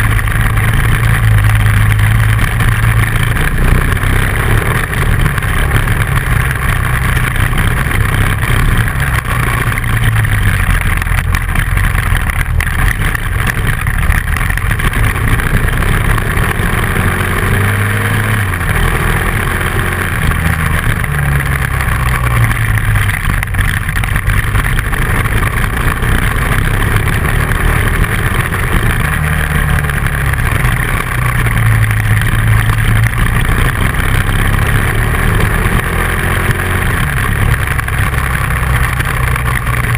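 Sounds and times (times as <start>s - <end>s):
motorcycle engine running: 0.0s - 39.9s
wind and tyres rushing: 0.0s - 39.9s.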